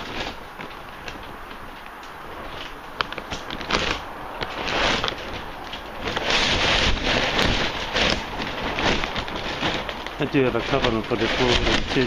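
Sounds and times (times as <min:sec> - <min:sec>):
heavy rain on plastic tarpaulin: 0:00.0 - 0:12.0.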